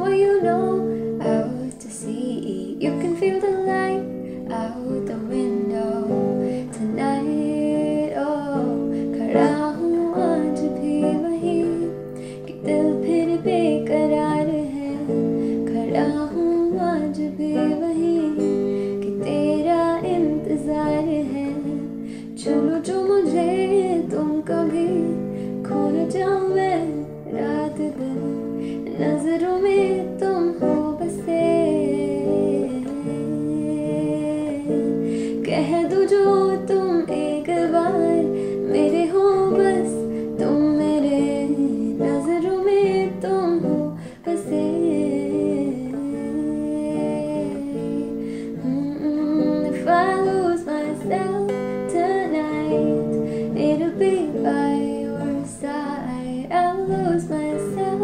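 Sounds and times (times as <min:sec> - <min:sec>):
woman singing: 0:00.0 - 0:58.0.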